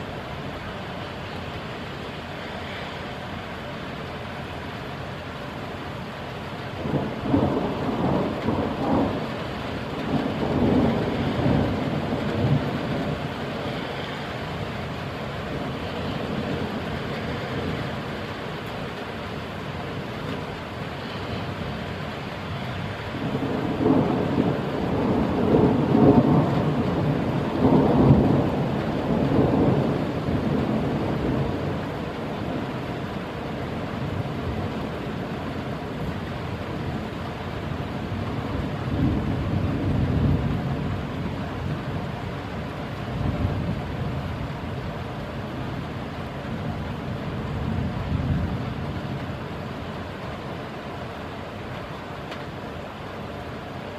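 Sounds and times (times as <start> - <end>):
steady rain falling: 0.0 - 53.9
thunder rumbling: 6.4 - 53.9.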